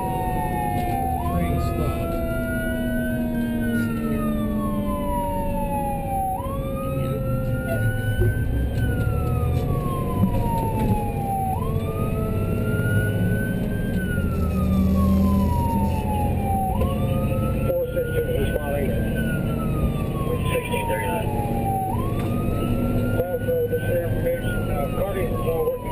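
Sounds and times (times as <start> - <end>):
vehicle engine and road noise: 0.0 - 25.9
wailing emergency siren: 0.0 - 25.9.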